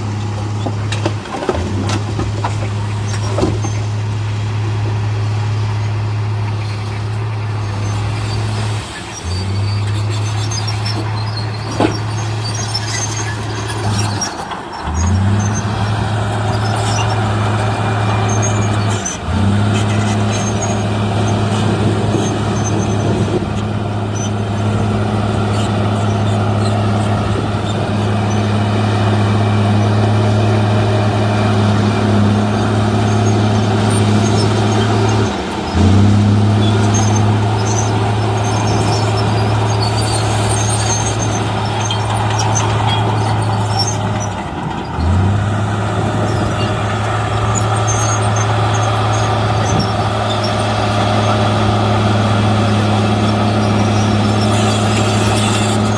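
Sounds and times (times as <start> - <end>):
heavy diesel engine under load: 0.0 - 55.9.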